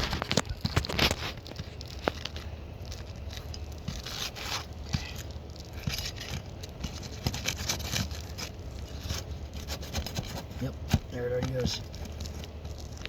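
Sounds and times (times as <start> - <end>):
shingles scraping and tearing: 0.0 - 13.0.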